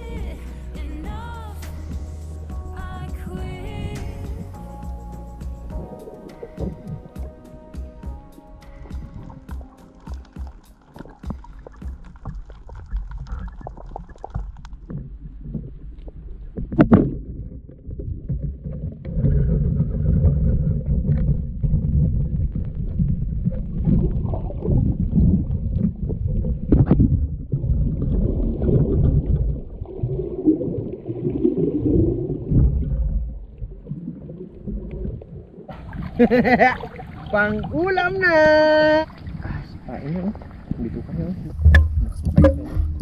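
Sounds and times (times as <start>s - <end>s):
muffled underwater rumble: 0.0s - 43.0s
water swishing: 0.0s - 43.0s.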